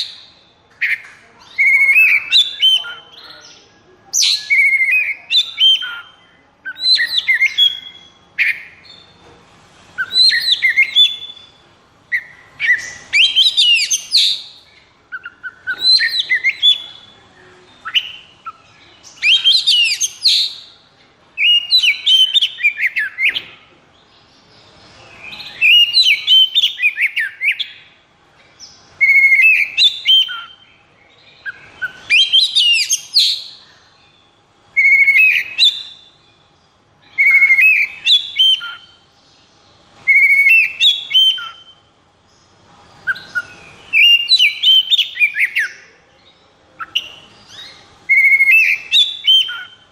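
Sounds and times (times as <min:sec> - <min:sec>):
songbird whistles and trills: 0:00.0 - 0:03.4, 0:04.1 - 0:09.2, 0:10.0 - 0:17.2, 0:17.8 - 0:20.8, 0:21.4 - 0:23.6, 0:25.0 - 0:27.9, 0:29.0 - 0:33.6, 0:34.7 - 0:36.4, 0:37.0 - 0:39.1, 0:40.0 - 0:41.9, 0:43.0 - 0:45.9, 0:46.8 - 0:49.9.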